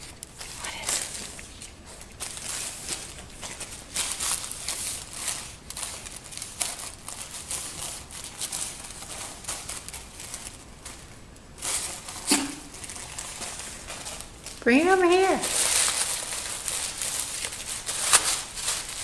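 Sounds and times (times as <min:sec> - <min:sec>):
wrapping paper crinkling: 0:00.0 - 0:19.0.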